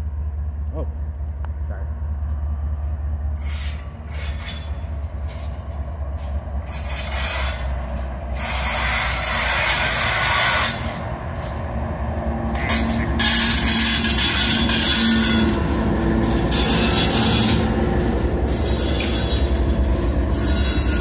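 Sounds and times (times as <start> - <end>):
diesel locomotives rumbling: 0.0 - 21.0
rushing rail noise: 0.0 - 21.0
train wheels clicking over rail joints: 2.1 - 11.7, 12.4 - 21.0.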